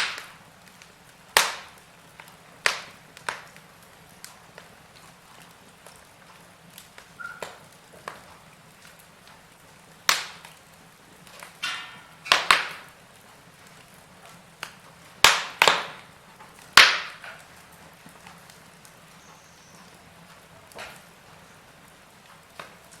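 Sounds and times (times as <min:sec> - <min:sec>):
burning wood crackling: 0:00.0 - 0:23.0
fire popping and cracking: 0:00.0 - 0:23.0.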